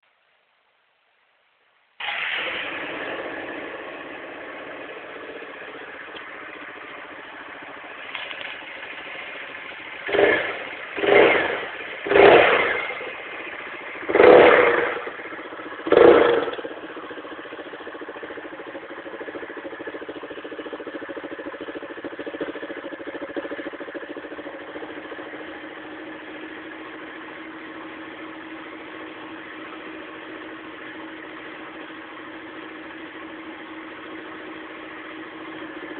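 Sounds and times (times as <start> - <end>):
motorcycle engine idling and revving: 2.0 - 35.9.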